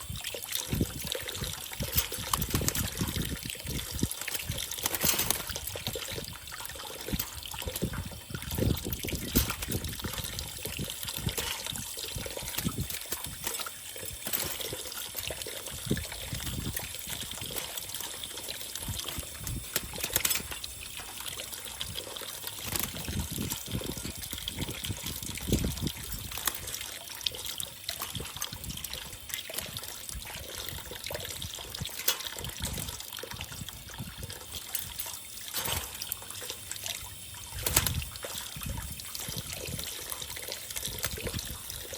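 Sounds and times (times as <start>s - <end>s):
water trickling and pouring: 0.0s - 41.9s.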